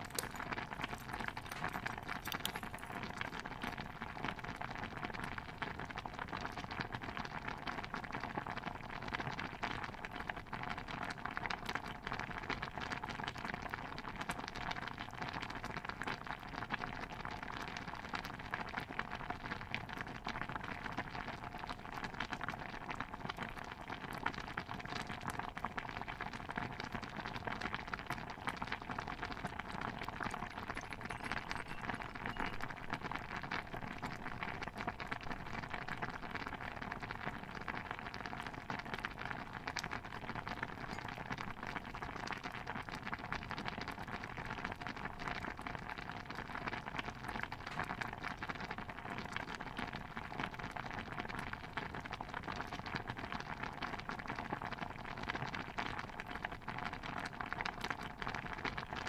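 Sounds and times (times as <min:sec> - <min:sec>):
small pops and crackles: 0:00.0 - 0:08.6, 0:19.4 - 0:59.0.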